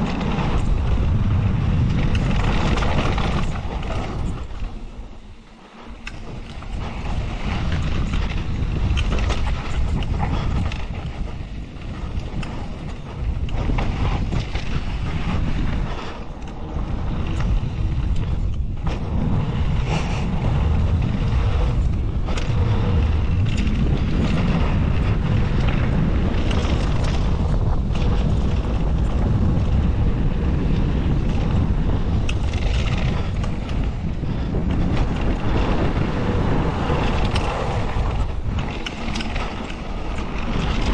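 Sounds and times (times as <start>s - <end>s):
bike clicking rattle: 0.0s - 40.9s
bike tyres rolling on dirt: 0.0s - 40.9s
wind buffeting microphone: 0.0s - 40.9s.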